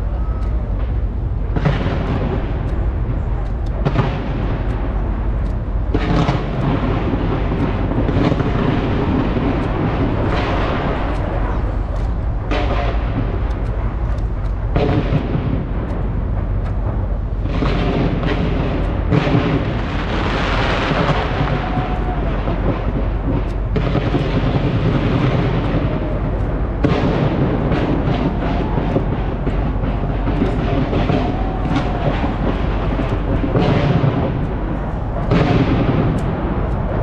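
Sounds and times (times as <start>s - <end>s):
fireworks booming: 0.0s - 37.0s
fireworks cracking and crackling: 0.0s - 37.0s.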